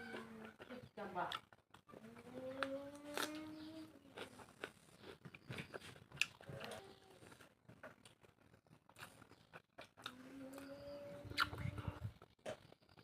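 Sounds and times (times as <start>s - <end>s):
food being chewed: 0.0s - 13.0s.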